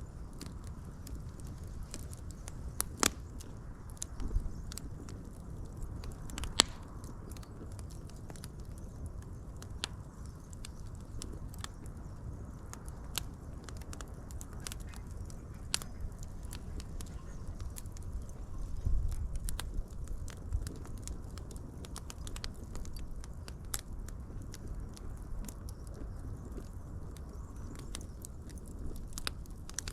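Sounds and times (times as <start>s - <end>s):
fire crackling: 0.0s - 29.9s
sharp fire pops: 0.4s - 29.9s.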